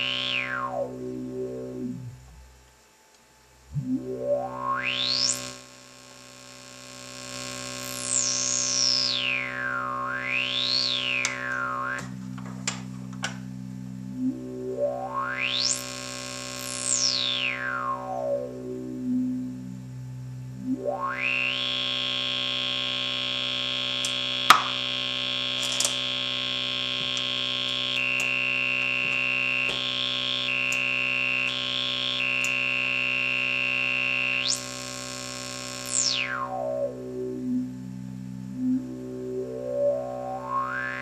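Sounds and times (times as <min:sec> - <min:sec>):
buzzy synthesizer filter sweep: 0:00.0 - 0:02.6, 0:03.5 - 0:41.0.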